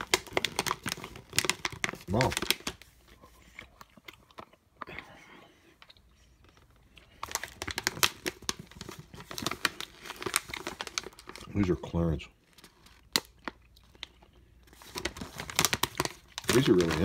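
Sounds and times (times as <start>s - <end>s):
plastic snack pouch crinkling: 0.0s - 4.9s, 5.8s - 17.0s.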